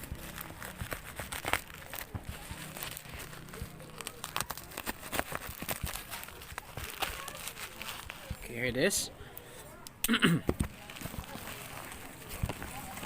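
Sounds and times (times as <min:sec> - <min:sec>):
plastic packaging crinkling and tearing: 0:00.0 - 0:08.7, 0:10.6 - 0:13.0.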